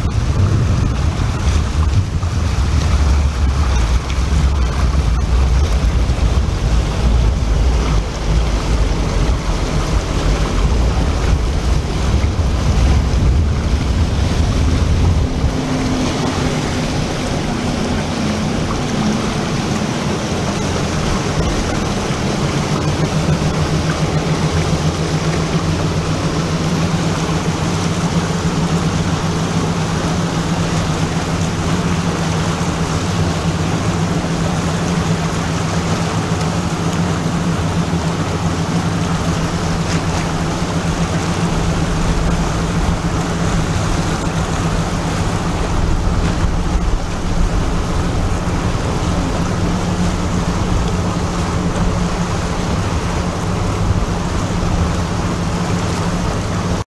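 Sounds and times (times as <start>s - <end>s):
water rushing from wakes: 0.0s - 56.8s
motorboat engine hum: 0.0s - 56.9s.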